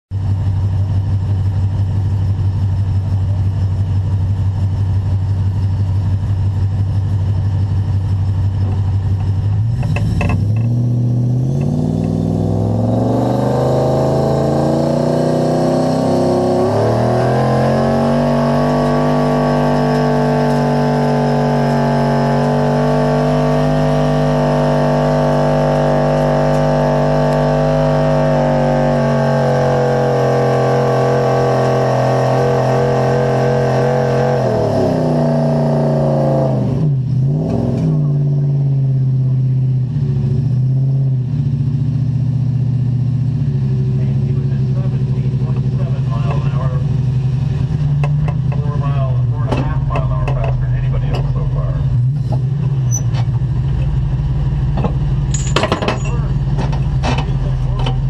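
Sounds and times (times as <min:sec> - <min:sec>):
truck engine revving: 0:08.6 - 0:58.0.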